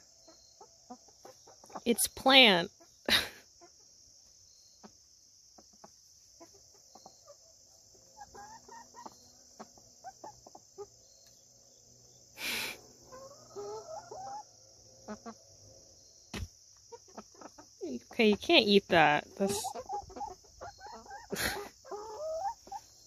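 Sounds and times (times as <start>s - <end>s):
insects chirring: 0.0s - 23.0s
hens clucking softly: 0.1s - 2.0s, 2.7s - 11.5s, 12.8s - 16.0s, 16.8s - 18.4s, 19.3s - 23.0s.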